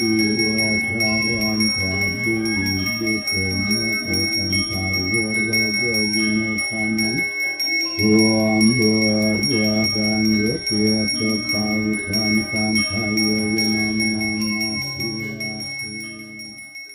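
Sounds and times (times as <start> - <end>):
man chanting: 0.0 - 16.7
hand bell ringing: 0.0 - 16.9.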